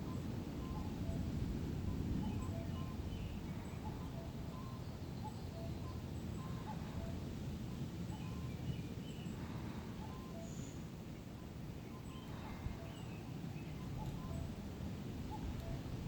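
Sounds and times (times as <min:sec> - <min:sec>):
faint whistled bird calls: 0:00.0 - 0:01.3, 0:01.9 - 0:14.6, 0:15.2 - 0:15.9
low rumble of wind: 0:00.0 - 0:16.0.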